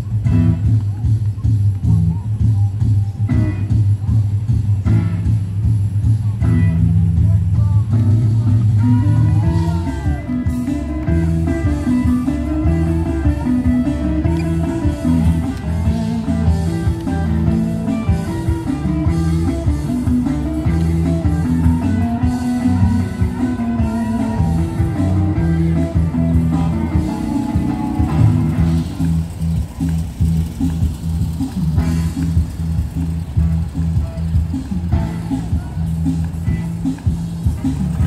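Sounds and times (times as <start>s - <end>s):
blues-rock guitar: 0.0s - 38.0s
walking bass line: 0.0s - 38.0s.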